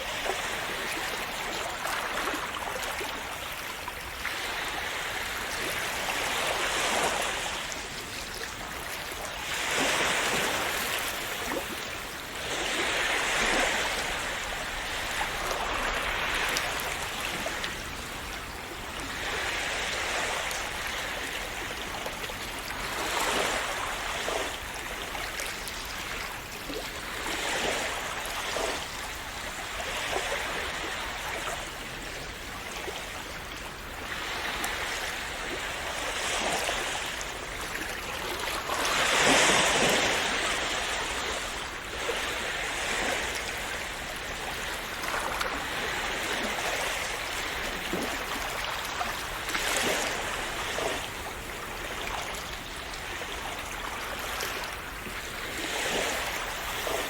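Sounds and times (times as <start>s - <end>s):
sea waves washing over shore: 0.0s - 57.0s.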